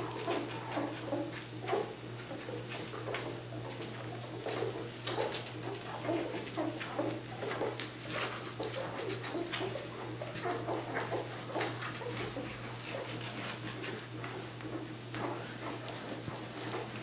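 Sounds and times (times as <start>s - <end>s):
puppies squeaking and grunting: 0.0s - 17.0s.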